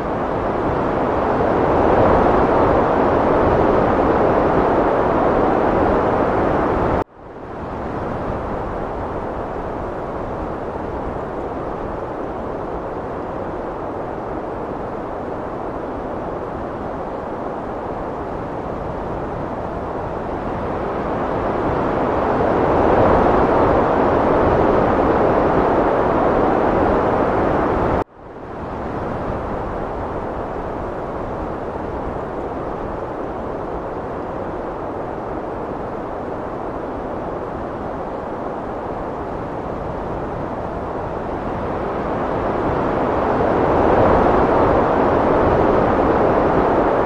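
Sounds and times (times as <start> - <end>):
heavy wind rushing: 0.0 - 47.0.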